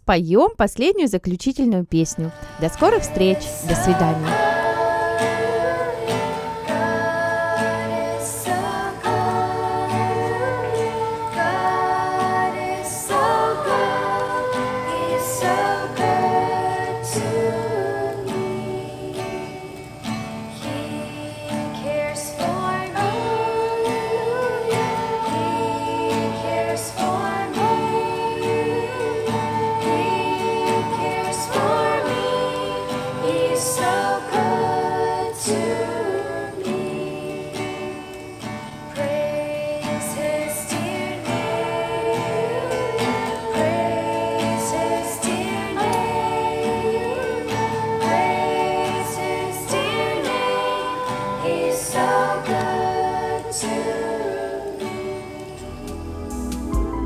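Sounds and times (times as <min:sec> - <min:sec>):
guitar accompaniment: 0:00.1 - 0:57.0
group of voices singing: 0:02.0 - 0:57.0.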